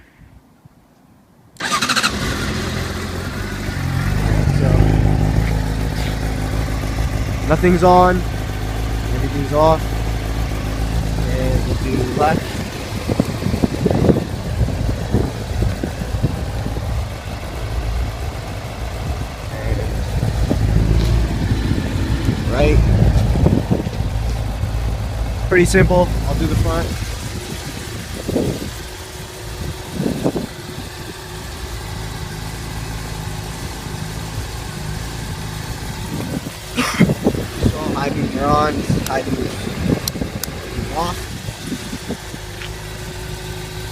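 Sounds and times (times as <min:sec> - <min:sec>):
motorcycle engine idling: 0:01.6 - 0:43.9.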